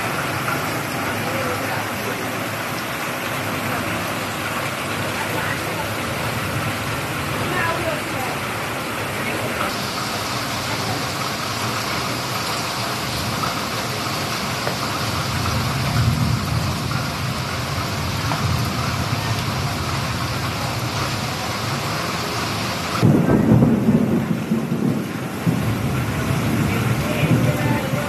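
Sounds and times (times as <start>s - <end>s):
heavy rain on standing water: 0.0s - 28.0s
thunder rumbling: 0.0s - 28.0s.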